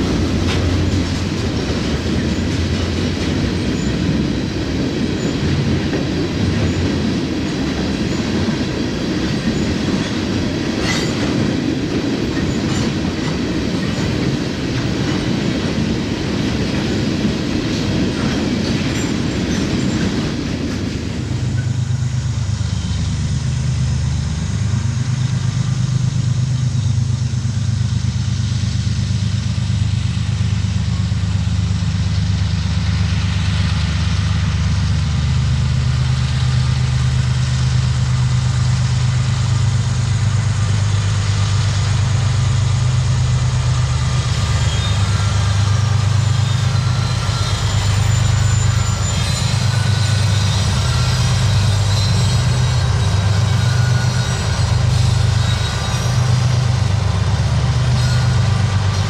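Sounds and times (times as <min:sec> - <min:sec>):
diesel locomotives rumbling: 0:00.0 - 0:59.0.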